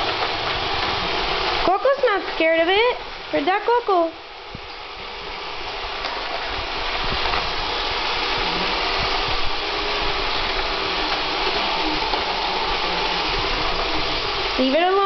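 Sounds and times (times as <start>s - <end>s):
robot vacuum whirring: 0.0s - 15.0s.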